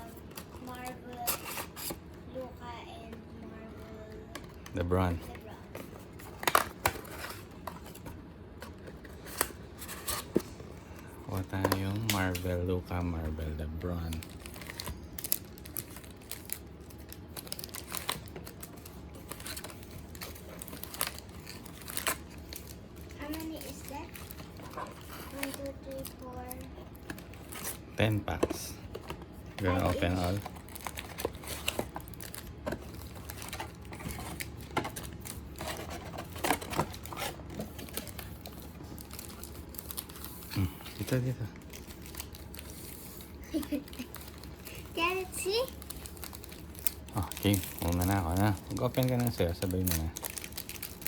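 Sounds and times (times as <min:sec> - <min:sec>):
foil packaging crinkling: 0:00.0 - 0:02.0, 0:03.9 - 0:51.0.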